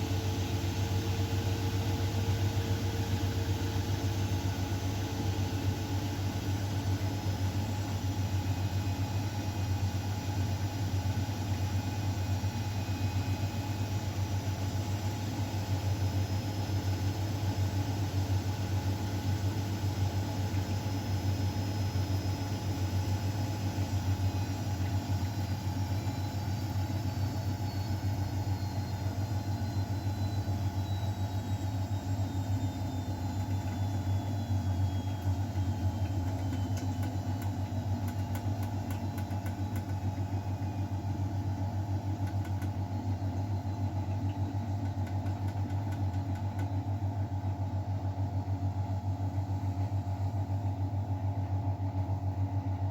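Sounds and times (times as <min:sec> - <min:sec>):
washing machine motor hum: 0:00.0 - 0:52.9.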